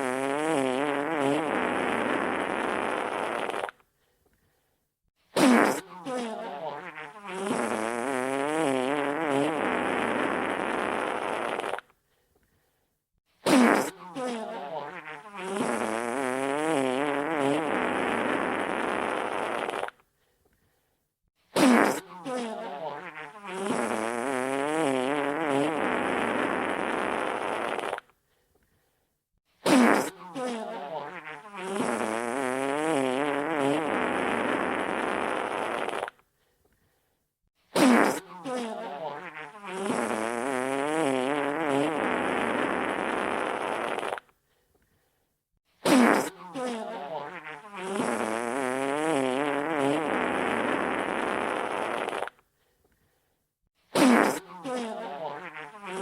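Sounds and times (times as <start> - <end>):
wet fart sound effect: 0.0 - 3.8, 5.3 - 12.0, 13.4 - 20.0, 21.5 - 28.1, 29.6 - 36.2, 37.7 - 44.4, 45.8 - 52.4, 53.9 - 56.0.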